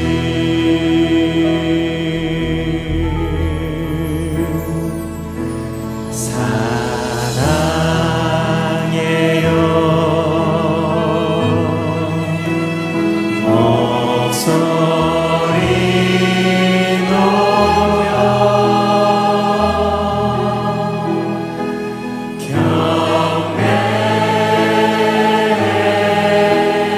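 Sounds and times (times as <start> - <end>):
orchestra and band accompaniment: 0.0 - 26.8
choir singing: 0.0 - 26.9
worship leader singing: 0.0 - 26.9.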